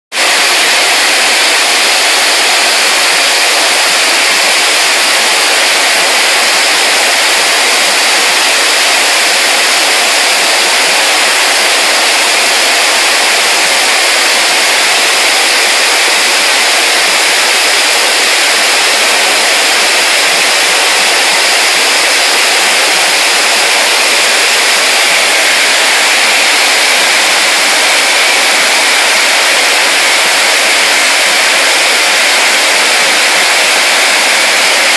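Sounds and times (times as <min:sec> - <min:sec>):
steam hissing through pipes: 0:00.1 - 0:34.9.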